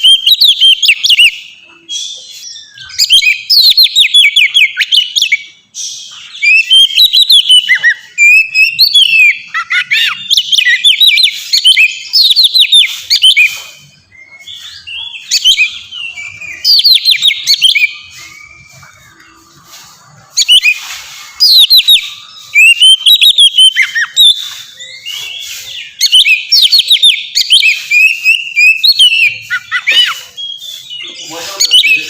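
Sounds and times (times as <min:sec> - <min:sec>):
bird singing whistled phrases: 0:00.0 - 0:32.0.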